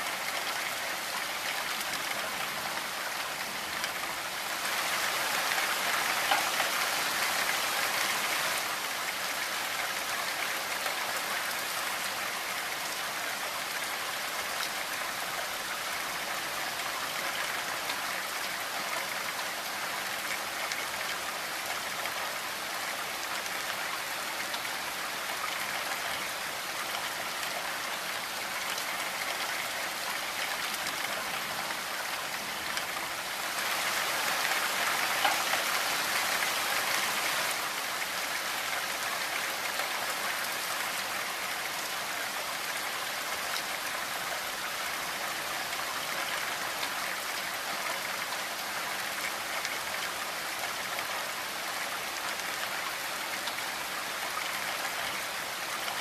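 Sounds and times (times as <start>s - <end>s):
rain on a window and roof: 0.0s - 56.0s.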